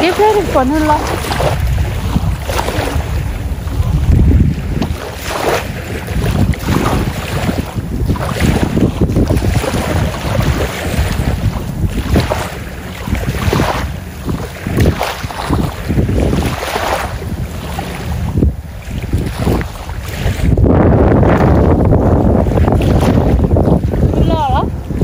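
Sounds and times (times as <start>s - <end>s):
wind gusting on microphone: 0.0s - 25.0s.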